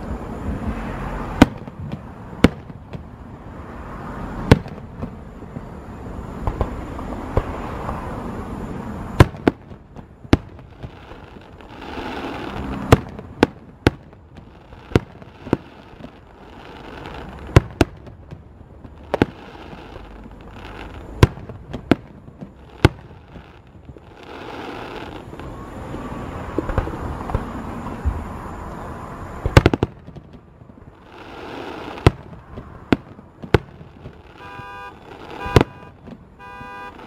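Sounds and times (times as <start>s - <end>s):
fireworks bursting with sharp bangs: 0.0s - 28.3s, 29.3s - 37.0s.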